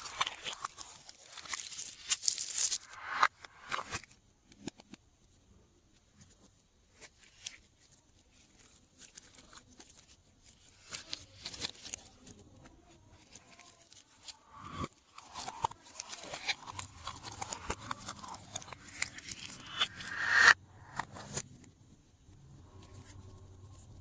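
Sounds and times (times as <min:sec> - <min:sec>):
hands working slime: 0:00.0 - 0:05.1, 0:06.1 - 0:20.2.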